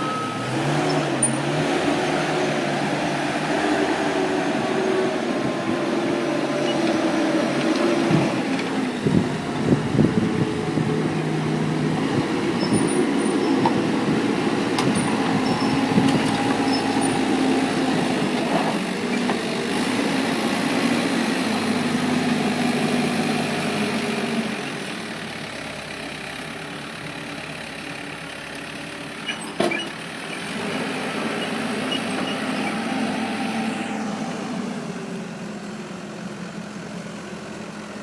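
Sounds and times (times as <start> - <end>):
loader diesel engine working: 0.0 - 38.0.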